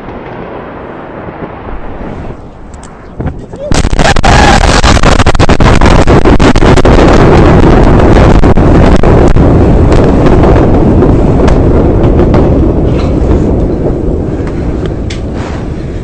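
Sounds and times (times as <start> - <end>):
distorted rumble with crackling: 0.0 - 16.0
explosion blast: 0.0 - 16.0.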